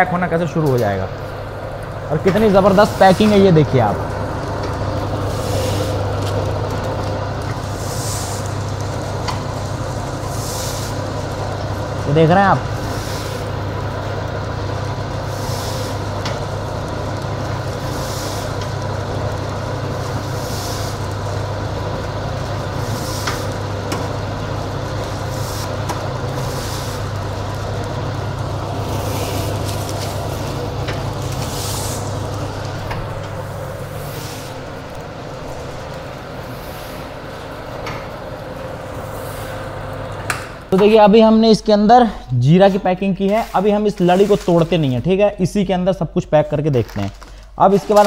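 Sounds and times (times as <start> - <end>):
packing machine motor hum: 0.0 - 45.2, 46.6 - 48.0.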